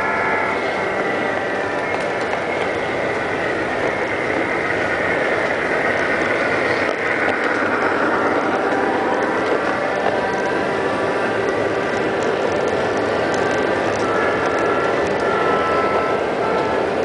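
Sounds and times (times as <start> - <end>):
wheels rolling on track: 0.0 - 17.0.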